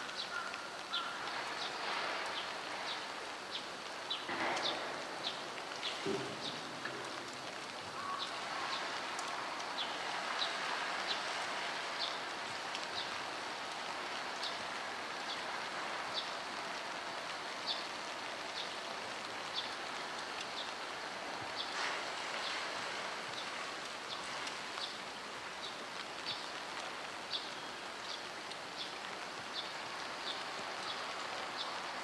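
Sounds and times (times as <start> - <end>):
heavy rain falling: 0.0 - 32.0
raindrops ticking: 0.0 - 32.0.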